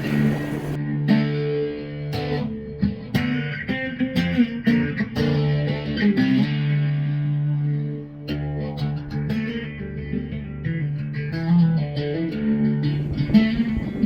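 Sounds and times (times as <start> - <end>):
guitar music: 0.0 - 14.0.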